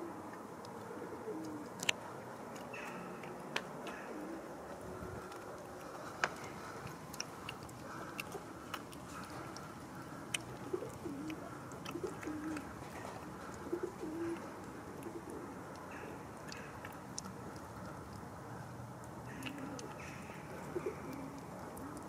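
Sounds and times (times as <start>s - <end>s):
low cooing calls: 0.0s - 22.0s
cat chewing and lapping: 3.7s - 22.0s.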